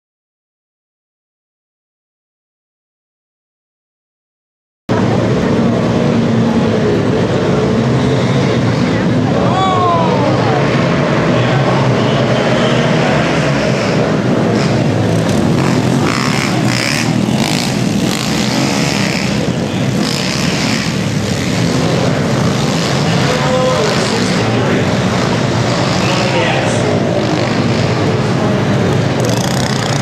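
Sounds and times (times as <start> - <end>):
small motorbike engines revving: 4.9 - 30.0.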